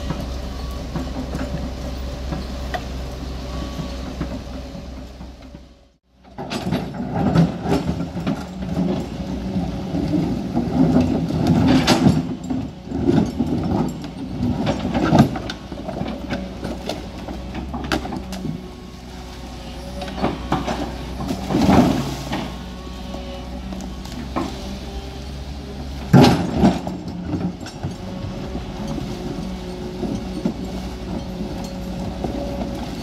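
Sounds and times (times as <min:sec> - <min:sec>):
excavator diesel engine running: 0:00.0 - 0:33.0
machine clanks and knocks: 0:03.5 - 0:18.7, 0:19.9 - 0:24.8, 0:25.8 - 0:33.0.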